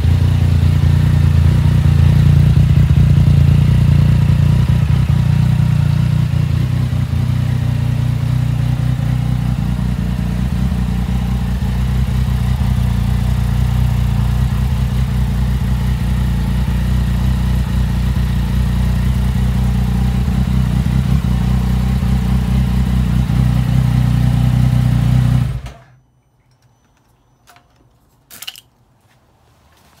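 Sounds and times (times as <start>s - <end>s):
motorcycle engine idling: 0.0s - 25.8s.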